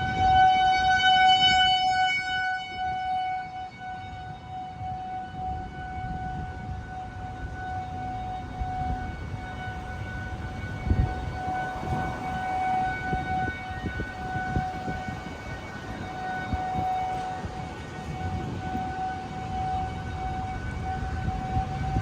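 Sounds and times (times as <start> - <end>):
warning siren steady tone: 0.0 - 22.0
wind rumbling on microphone: 0.0 - 22.0.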